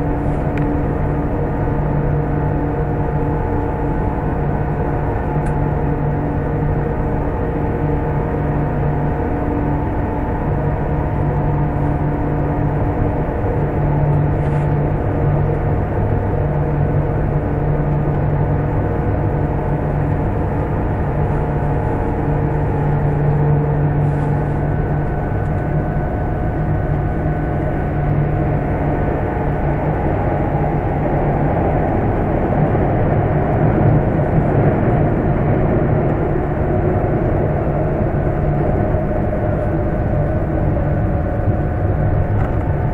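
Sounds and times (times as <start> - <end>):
train rumble in tunnel: 0.0 - 42.9.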